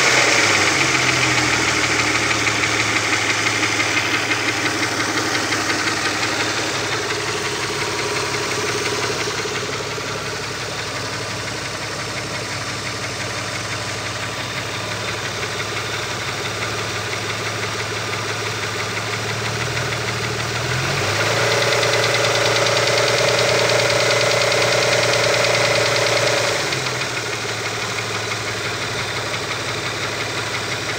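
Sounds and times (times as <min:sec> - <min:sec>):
car engine idling with knock: 0:00.0 - 0:30.9
engine revving: 0:00.0 - 0:30.9.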